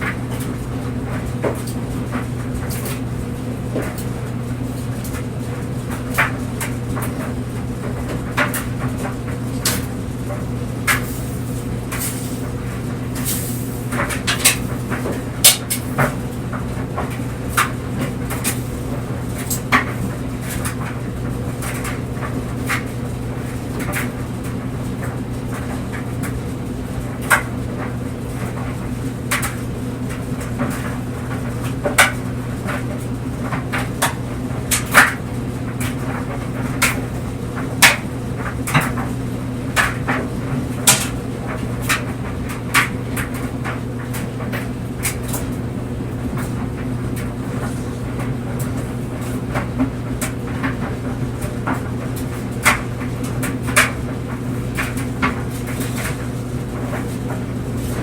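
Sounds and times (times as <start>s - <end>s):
clothes dryer motor hum: 0.0s - 58.0s.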